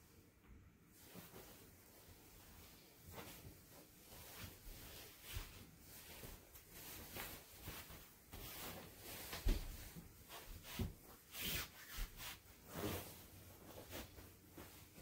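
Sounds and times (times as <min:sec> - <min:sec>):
rustling and rubbing handling: 0:00.0 - 0:15.0.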